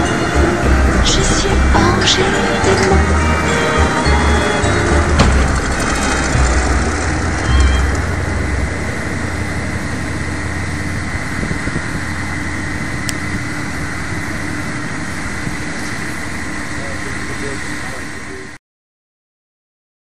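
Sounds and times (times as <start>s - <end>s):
diesel railcar engine rumbling: 0.0s - 18.6s.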